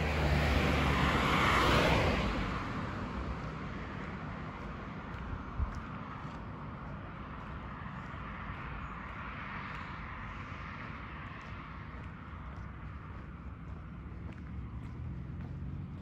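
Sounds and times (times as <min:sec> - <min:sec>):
vehicle passing: 0:00.0 - 0:16.0
steady low rumble: 0:02.3 - 0:16.0.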